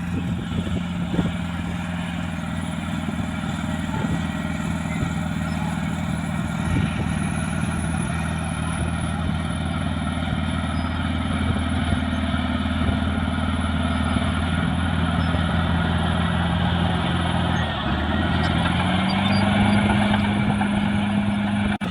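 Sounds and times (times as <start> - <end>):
bulldozer diesel engine running: 0.0 - 21.9.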